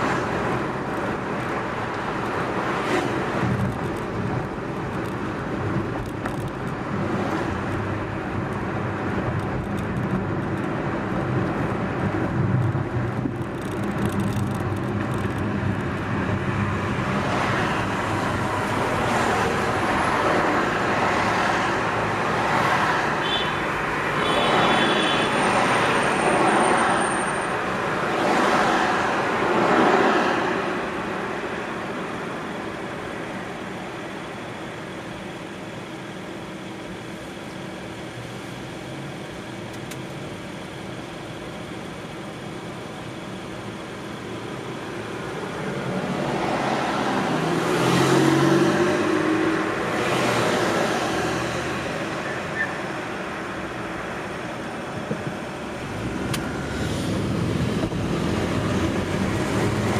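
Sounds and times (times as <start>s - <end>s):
car engine and tyre noise: 0.0s - 59.9s
passing traffic: 0.0s - 59.9s.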